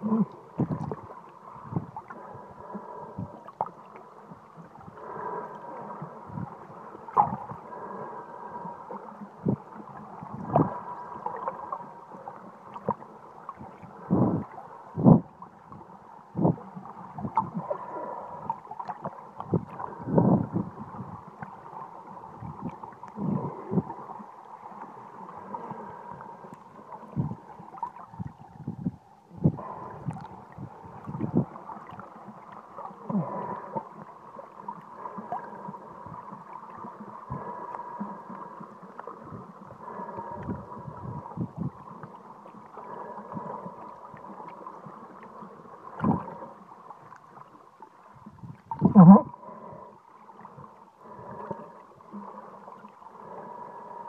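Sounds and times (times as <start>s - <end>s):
faint hum: 0.0s - 54.0s
water gurgling and rushing: 0.0s - 54.0s.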